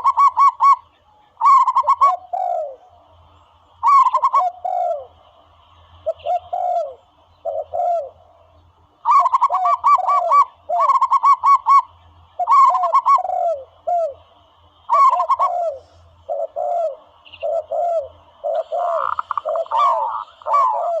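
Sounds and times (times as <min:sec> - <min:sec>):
recorded dove cooing: 0:00.0 - 0:03.0, 0:03.8 - 0:21.0.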